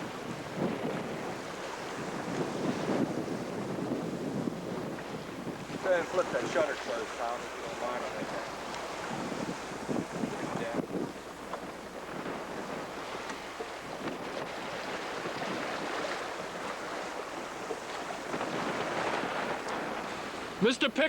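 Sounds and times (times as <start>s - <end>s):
wind buffeting microphone: 0.0s - 20.7s
sea water rushing along hull: 0.0s - 21.0s.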